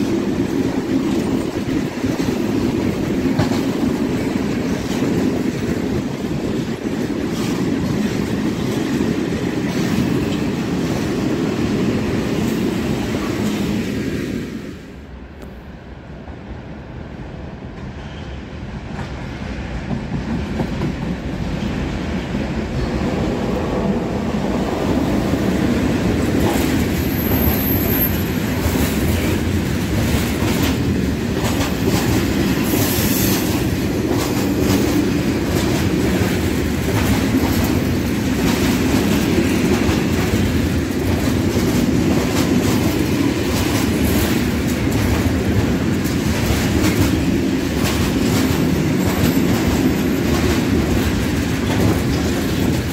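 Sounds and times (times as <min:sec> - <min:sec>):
freight train rumbling: 0:00.0 - 0:52.9.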